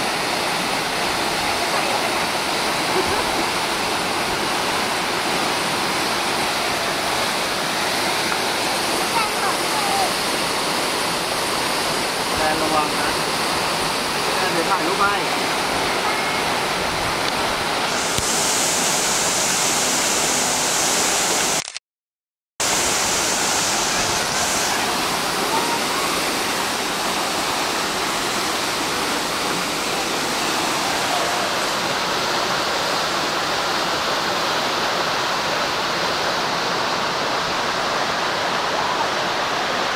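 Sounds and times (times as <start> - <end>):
waterfall rushing: 0.0 - 21.6, 22.6 - 39.9.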